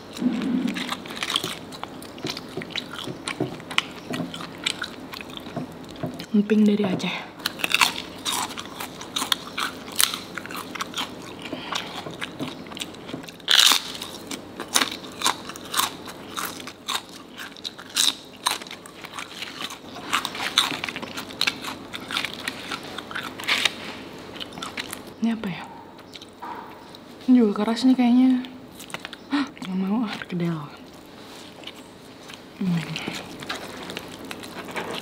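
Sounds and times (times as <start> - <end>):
chewing: 0.0 - 6.8, 7.4 - 27.2, 28.3 - 35.0
crunching crisp crackers: 0.0 - 6.8, 7.4 - 25.2, 28.3 - 35.0.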